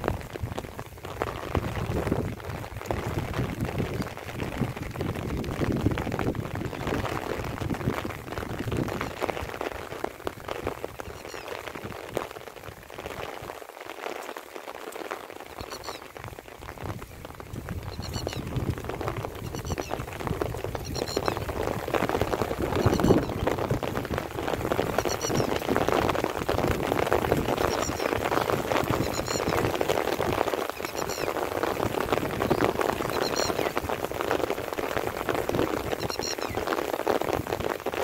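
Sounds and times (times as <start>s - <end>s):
light rain pattering: 0.0s - 38.0s.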